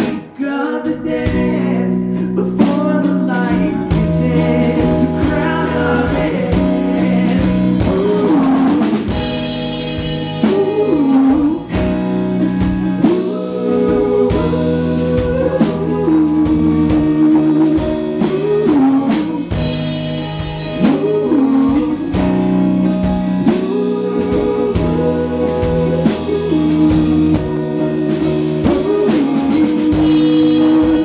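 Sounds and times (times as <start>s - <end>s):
drum kit beat: 0.0s - 31.0s
lead guitar melody: 3.1s - 31.0s.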